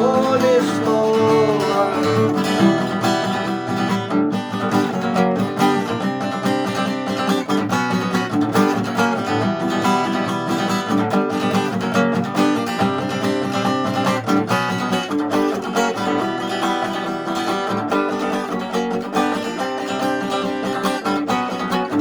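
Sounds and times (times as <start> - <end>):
instrumental rock with strummed guitar: 0.0 - 22.0.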